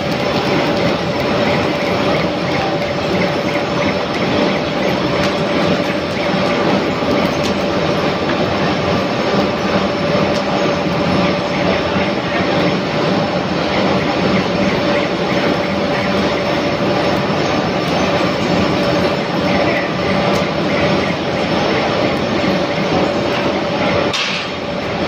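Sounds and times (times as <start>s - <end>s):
foundry machinery drone: 0.0s - 25.0s.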